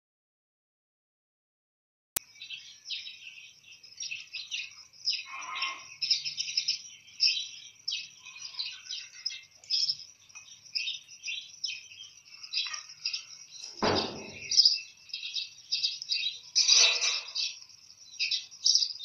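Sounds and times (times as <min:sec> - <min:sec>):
small birds chirping and twittering: 0:02.2 - 0:19.0.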